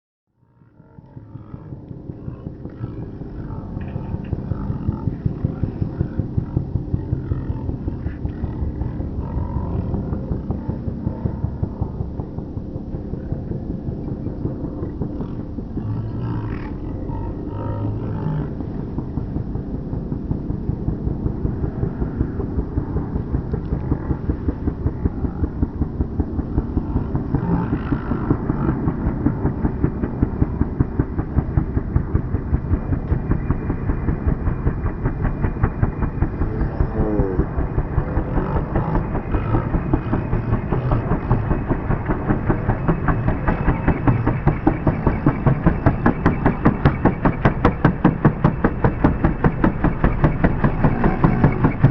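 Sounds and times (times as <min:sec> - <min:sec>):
helicopter rotor blades beating: 0:00.4 - 0:51.9
helicopter turbine noise: 0:00.4 - 0:51.9.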